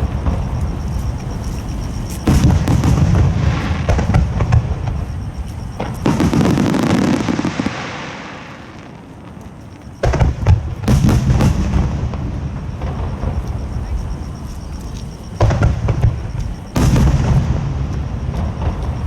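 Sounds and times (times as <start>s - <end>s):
fireworks booming: 0.0s - 14.5s, 15.3s - 19.0s.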